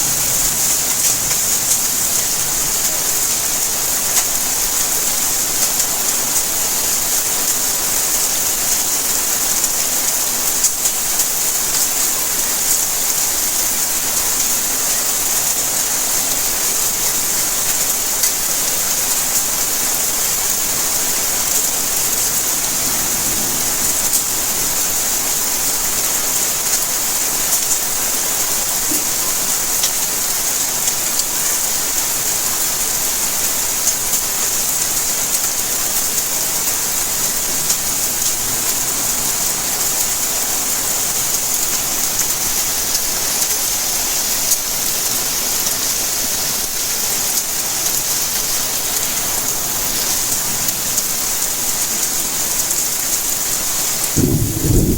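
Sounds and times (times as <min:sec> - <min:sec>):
raindrops ticking on surfaces: 0:00.0 - 0:54.9
steady rain hiss: 0:00.0 - 0:54.9.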